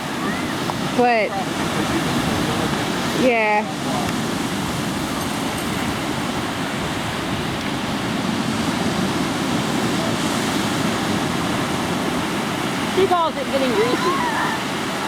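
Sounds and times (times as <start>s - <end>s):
ocean surf washing on beach: 0.0s - 15.0s.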